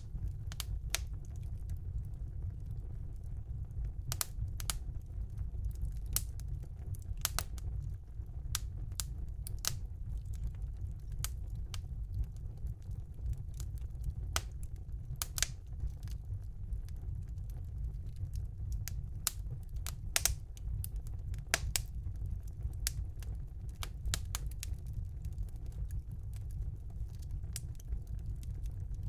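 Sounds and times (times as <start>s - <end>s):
low steady rumble: 0.0s - 29.0s
wood fire crackling: 0.0s - 29.0s.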